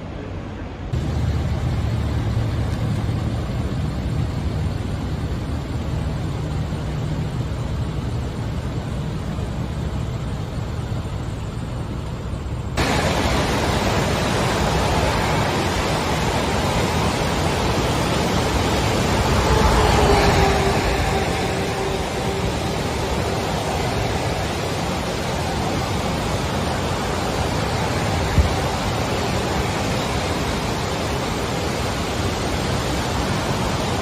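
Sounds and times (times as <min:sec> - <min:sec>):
floodwater rushing roar: 0:00.0 - 0:34.0.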